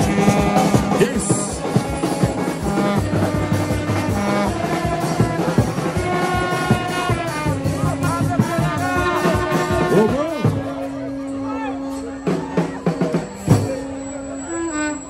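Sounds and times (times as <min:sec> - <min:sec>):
steady drum beat: 0:00.0 - 0:10.9, 0:12.2 - 0:13.9
brass horns holding notes: 0:00.0 - 0:15.0.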